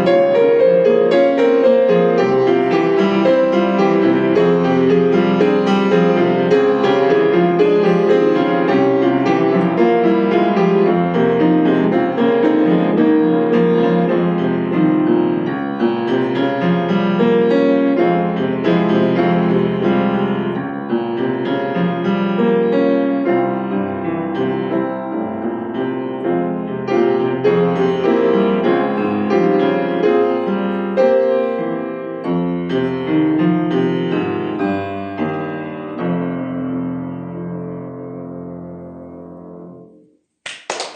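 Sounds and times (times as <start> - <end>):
solo piano playing: 0.0 - 40.0.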